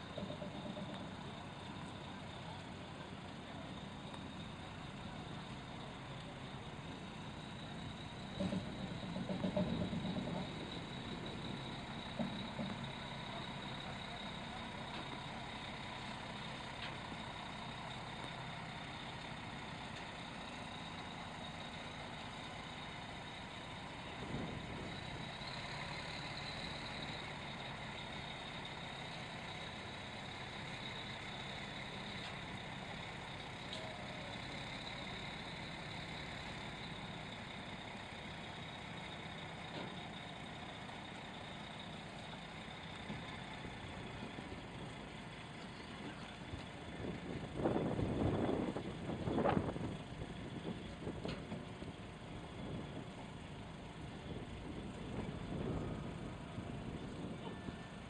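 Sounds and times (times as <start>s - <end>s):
diesel truck engine at low revs: 0.0s - 58.0s.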